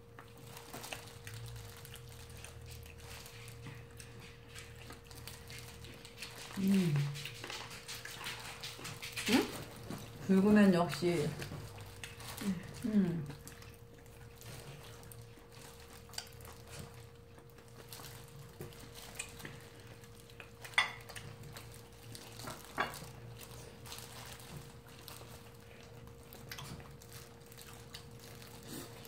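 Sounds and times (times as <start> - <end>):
chewing: 0.0 - 29.0
plastic gloves rustling: 0.0 - 29.0.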